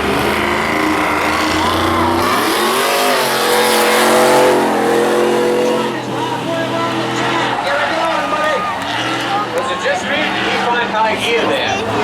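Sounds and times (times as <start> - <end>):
truck engines revving hard: 0.0 - 12.0.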